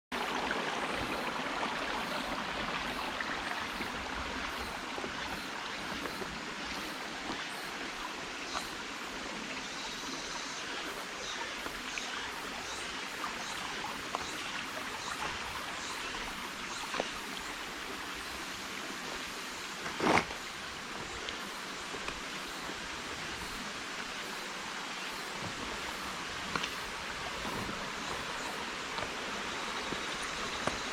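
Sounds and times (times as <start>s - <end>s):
stream water rushing over rocks: 0.1s - 30.9s.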